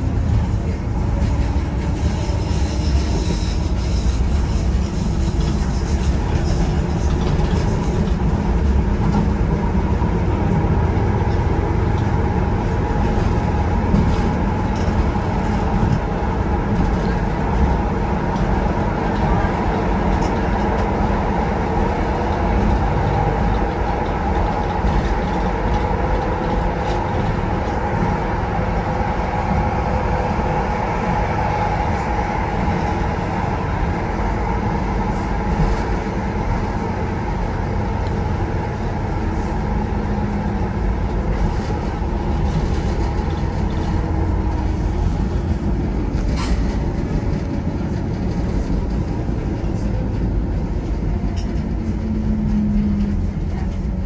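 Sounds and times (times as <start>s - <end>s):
train whine: 0.0s - 54.0s
wheels rumbling on rail: 0.0s - 54.0s.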